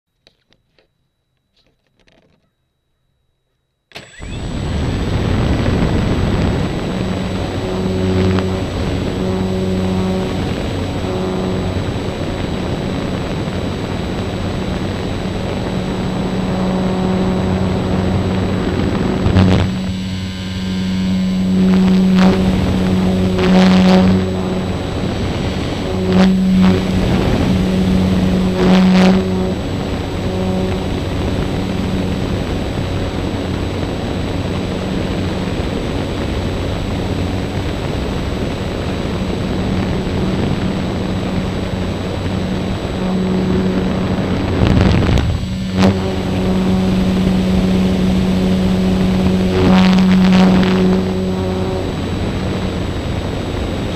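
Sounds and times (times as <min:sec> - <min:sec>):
electric motor and propeller humming: 0:03.9 - 0:53.9
wind blasts on microphone: 0:04.2 - 0:53.9.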